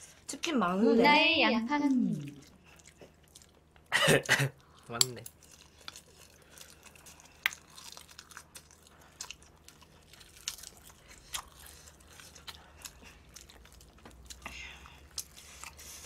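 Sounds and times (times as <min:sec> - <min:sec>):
chewing with wet mouth clicks: 0:02.1 - 0:03.9, 0:04.5 - 0:16.0.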